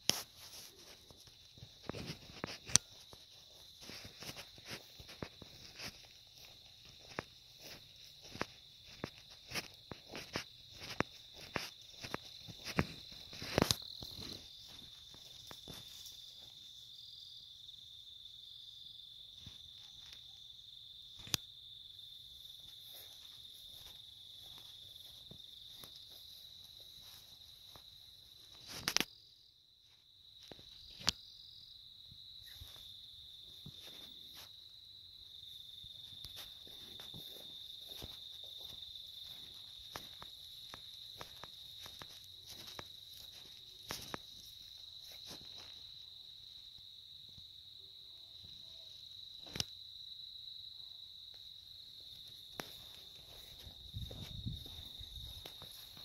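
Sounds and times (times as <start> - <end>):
night insects chirring: 0.0 - 56.0.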